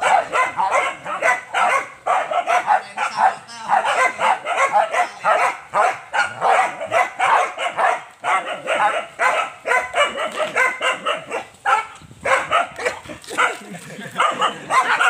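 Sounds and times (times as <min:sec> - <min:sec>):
young dogs barking excitedly: 0:00.0 - 0:15.0.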